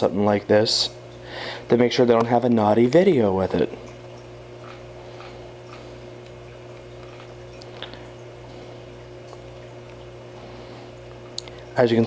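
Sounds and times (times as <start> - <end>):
camcorder pulsing low hum: 0.0 - 12.0.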